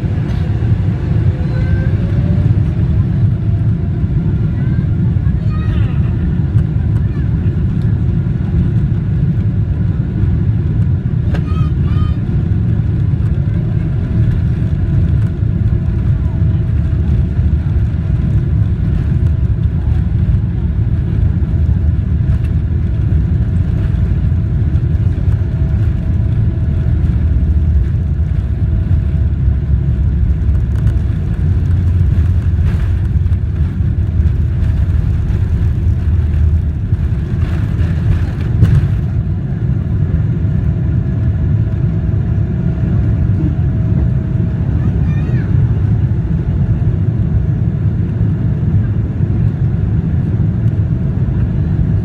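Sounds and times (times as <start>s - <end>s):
rushes of louder noise: 0.0s - 47.5s
airplane cabin engine rumble: 0.0s - 52.0s.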